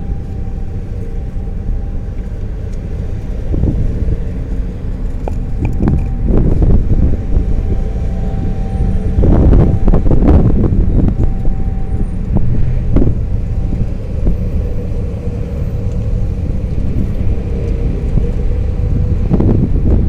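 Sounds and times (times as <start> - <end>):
faint siren tone: 0.0 - 19.6
loud low rumble: 2.9 - 20.0.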